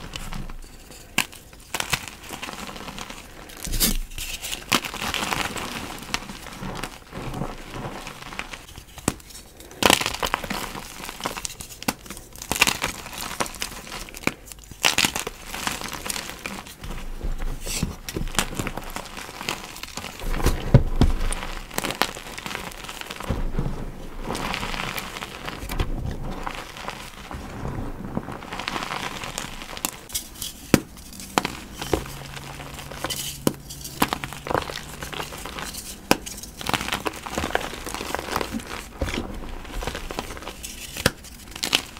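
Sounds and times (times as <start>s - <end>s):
chalk blocks crunching and crumbling: 0.0s - 41.9s
crinkling and tearing: 0.0s - 41.9s.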